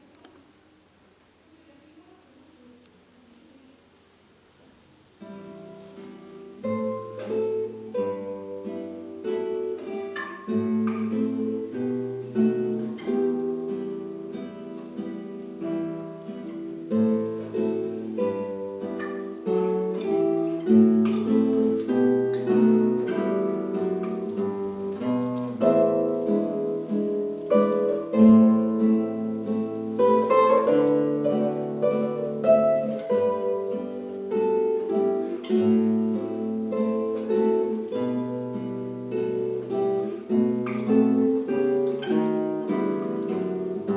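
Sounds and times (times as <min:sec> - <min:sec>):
acoustic guitar duet: 0:00.0 - 0:01.5, 0:02.4 - 0:43.9.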